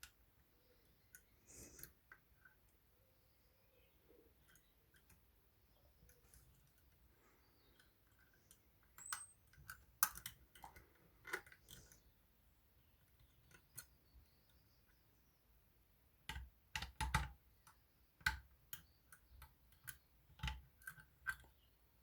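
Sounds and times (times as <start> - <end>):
lock picks clicking and scraping: 0.0 - 2.8, 4.3 - 12.2, 12.8 - 15.0, 16.2 - 21.7.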